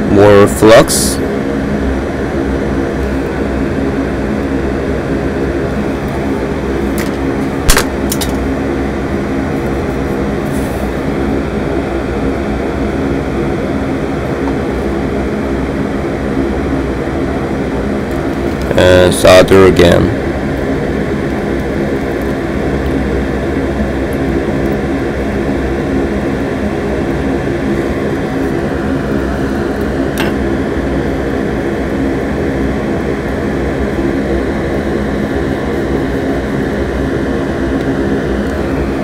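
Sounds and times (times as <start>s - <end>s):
machine hum with low tones: 0.0s - 39.0s.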